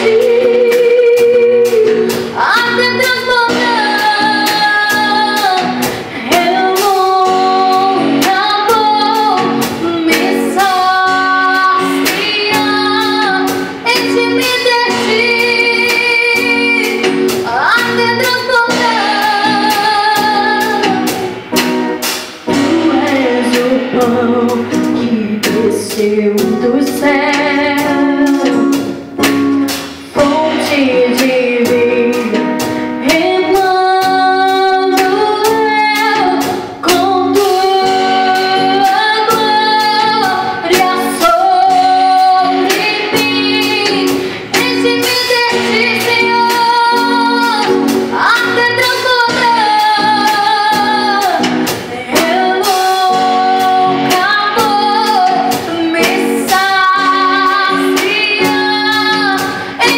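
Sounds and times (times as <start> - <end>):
instrumental accompaniment: 0.0 - 59.9
woman singing: 0.0 - 59.9.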